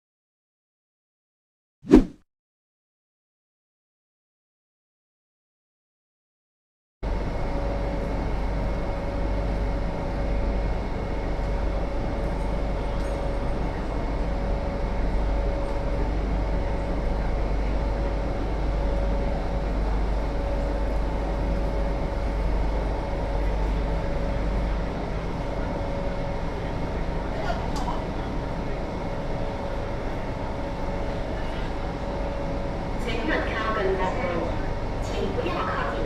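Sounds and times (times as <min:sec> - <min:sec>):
train car rumble and hum: 0:07.0 - 0:36.0.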